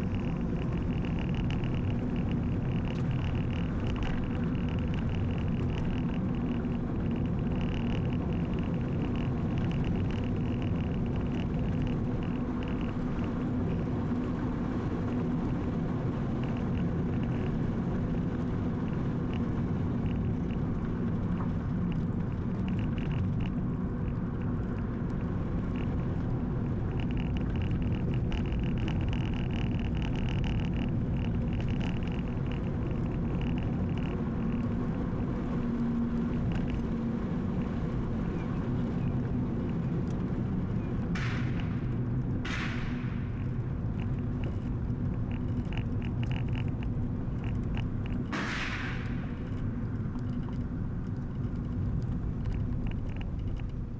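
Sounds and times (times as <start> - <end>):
car engine and road noise: 0.0 - 53.9.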